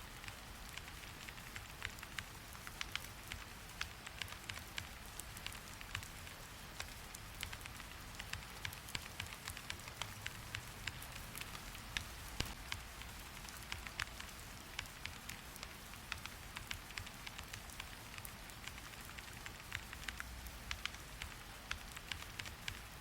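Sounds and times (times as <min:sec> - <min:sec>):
rain hiss: 0:00.0 - 0:23.0.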